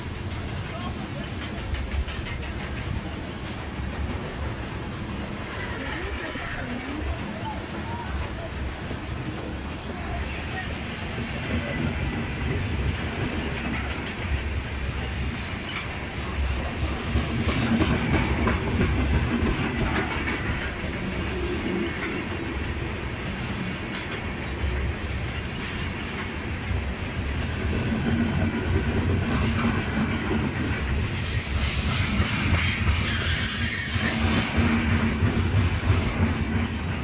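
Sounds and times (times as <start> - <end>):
freight train wheels rumbling: 0.0 - 37.0
wheels clacking over rail joints: 0.0 - 37.0.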